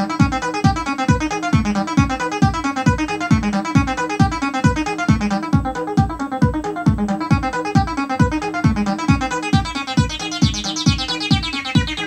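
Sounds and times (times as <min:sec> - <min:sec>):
acid bass synthesizer pattern: 0:00.0 - 0:12.0
electronic kick drum: 0:00.0 - 0:12.0.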